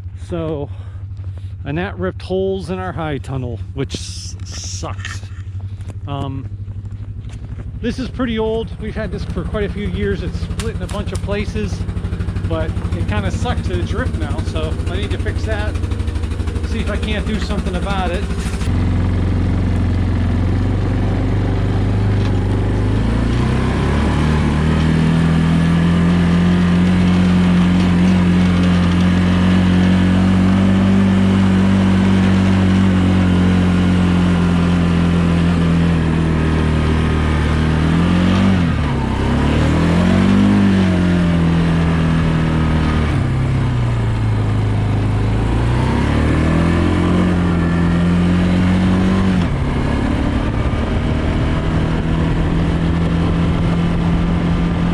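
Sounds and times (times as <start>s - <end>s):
engine running: 0.0s - 54.9s.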